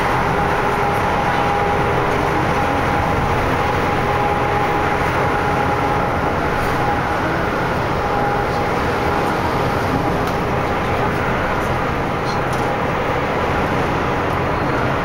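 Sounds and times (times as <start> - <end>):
road and engine noise in vehicle: 0.0 - 15.0.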